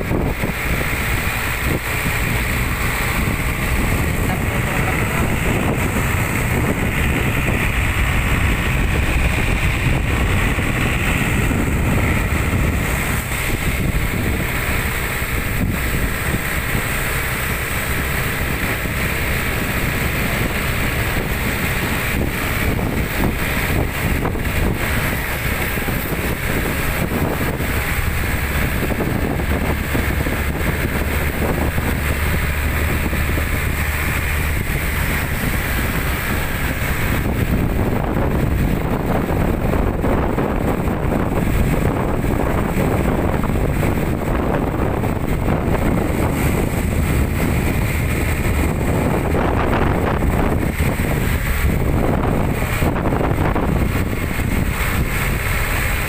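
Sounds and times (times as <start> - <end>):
truck engine and road noise: 0.0 - 56.0
wind buffeting microphone: 0.0 - 56.0.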